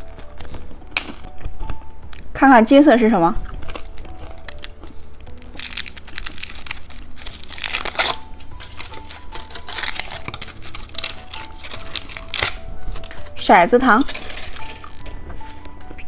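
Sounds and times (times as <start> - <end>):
candy packaging crinkling: 0.0 - 2.4, 3.3 - 16.0.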